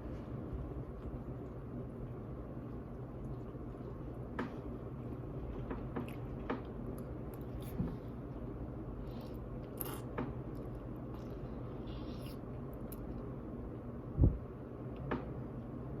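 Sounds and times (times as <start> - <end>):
steady low hum: 0.0 - 16.0
person chewing noodles: 0.1 - 13.9.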